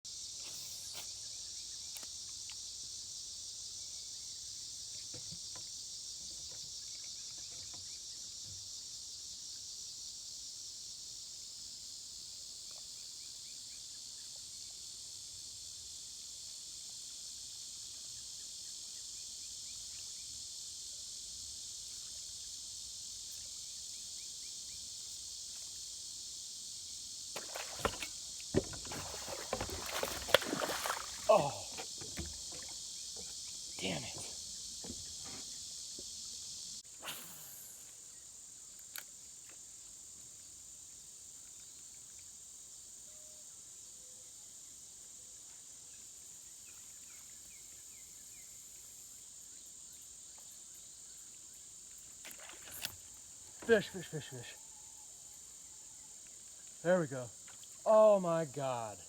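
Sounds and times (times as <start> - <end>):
crickets trilling: 0.1 - 59.0.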